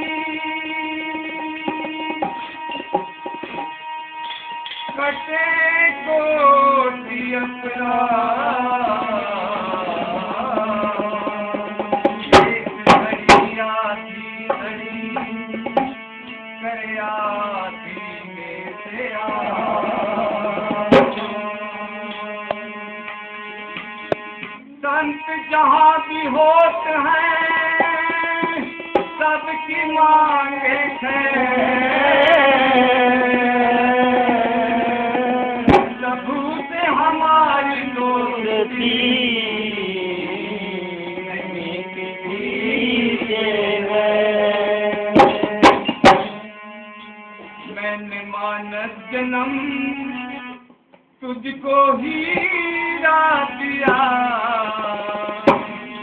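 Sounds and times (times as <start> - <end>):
dholak drum strokes: 0.0 - 7.4, 8.2 - 49.8, 51.9 - 56.0
harmonium chords: 0.0 - 56.0
person singing: 4.2 - 16.0, 16.6 - 22.6, 24.6 - 46.7, 47.6 - 56.0.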